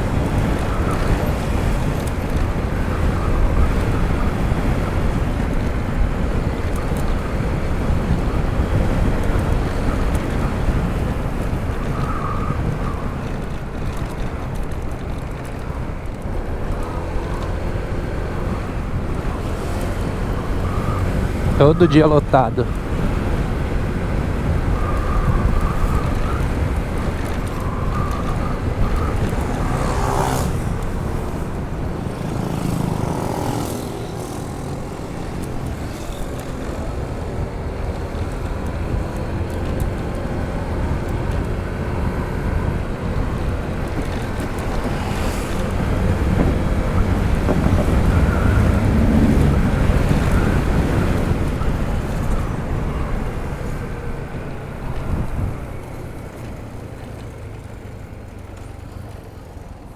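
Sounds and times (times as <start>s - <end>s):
scooter engine running: 0.0s - 59.9s
wind rumble on microphone: 0.0s - 59.9s.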